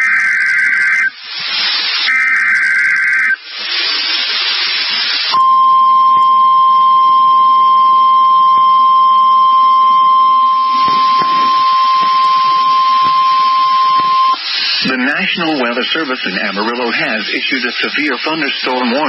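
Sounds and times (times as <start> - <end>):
steady high alarm tone: 0.0 - 1.2, 1.8 - 3.4, 5.3 - 19.0
radio hiss: 0.0 - 19.0.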